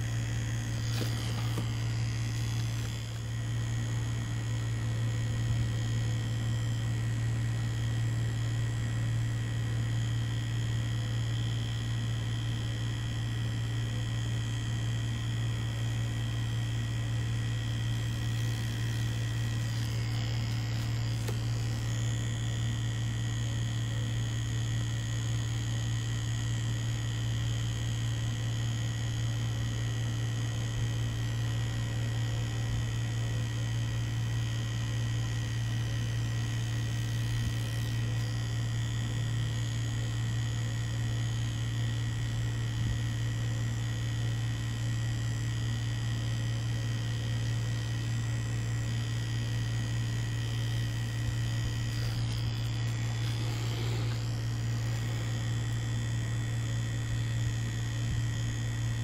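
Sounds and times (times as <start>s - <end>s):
tattoo machine buzzing: 0.0s - 59.0s.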